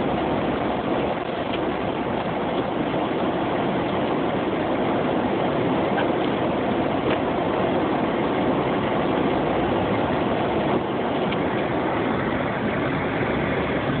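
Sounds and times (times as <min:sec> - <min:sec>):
vehicle engine and tyres in snow: 0:00.0 - 0:14.0.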